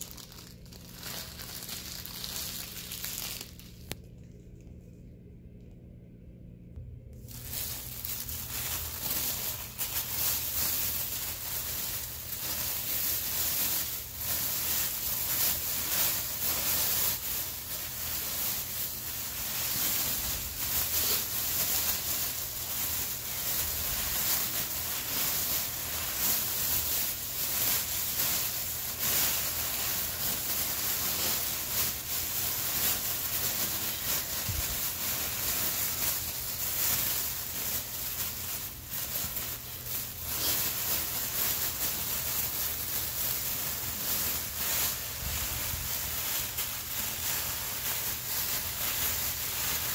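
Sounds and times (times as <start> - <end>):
plastic bag crinkling: 0.0 - 4.9, 7.1 - 49.9.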